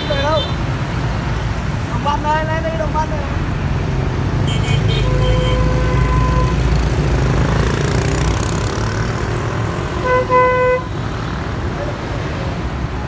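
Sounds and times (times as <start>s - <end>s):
traffic passing close by: 0.0s - 13.0s.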